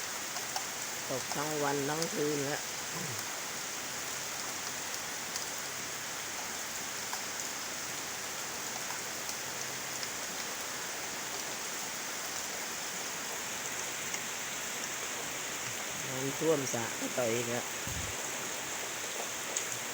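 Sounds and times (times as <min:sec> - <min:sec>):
raindrops ticking: 0:00.0 - 0:19.9
steady rain hiss: 0:00.0 - 0:19.9.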